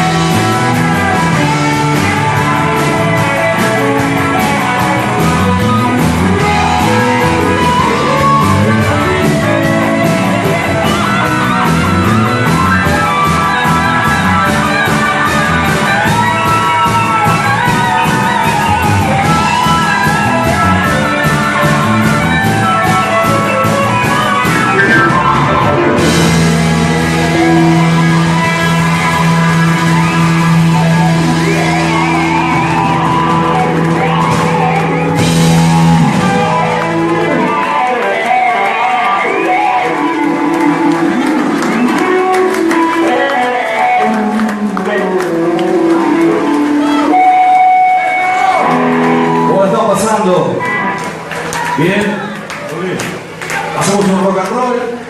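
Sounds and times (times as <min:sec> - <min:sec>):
fast steady drums: 0:00.0 - 0:46.7
electric guitar: 0:00.0 - 0:55.0
rock band playing: 0:00.0 - 0:55.0.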